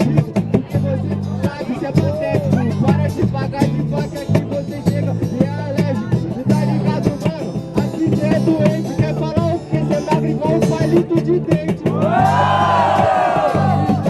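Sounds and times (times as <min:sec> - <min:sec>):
person rapping: 0:00.0 - 0:11.8
hip-hop beat with bass line: 0:00.0 - 0:14.0.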